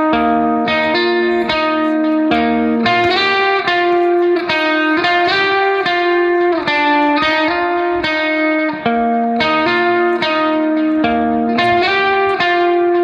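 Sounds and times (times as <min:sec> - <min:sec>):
guitar playing held notes: 0:00.0 - 0:13.0.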